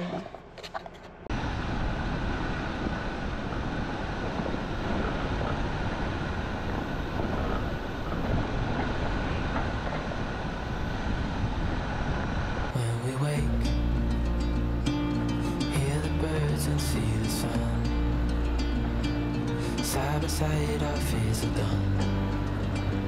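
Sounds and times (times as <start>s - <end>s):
vehicle engine and tyre rumble: 0.0s - 12.8s, 13.5s - 23.0s.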